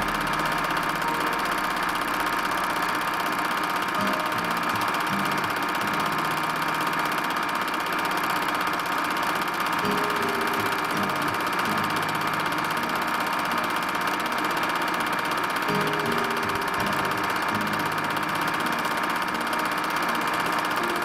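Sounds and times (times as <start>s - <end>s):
faint music: 0.0s - 21.0s
film projector whirring: 0.0s - 21.0s.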